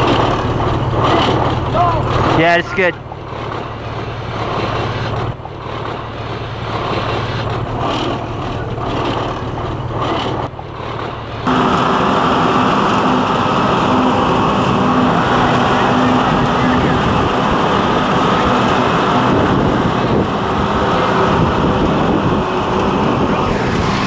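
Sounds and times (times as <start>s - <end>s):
engine and machinery noise: 0.0s - 24.0s
loud machine hum: 0.0s - 24.0s.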